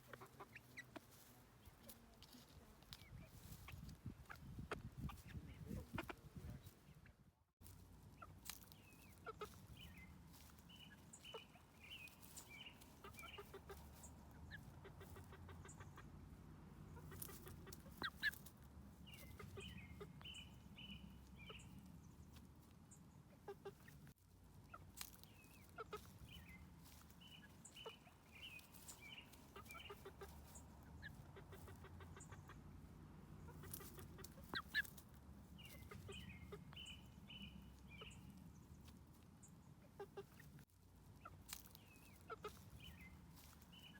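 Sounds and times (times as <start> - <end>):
chickens trilling clucks: 0.0 - 43.9.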